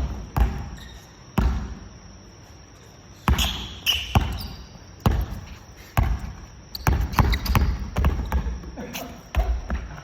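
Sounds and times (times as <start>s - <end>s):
basketballs bouncing on gym floor: 0.0s - 2.0s, 3.2s - 10.0s.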